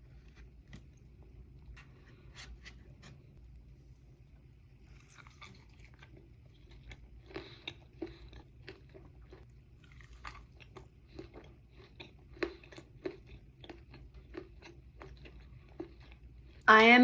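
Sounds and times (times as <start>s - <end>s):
person chewing close up: 0.0s - 2.2s, 4.7s - 16.7s.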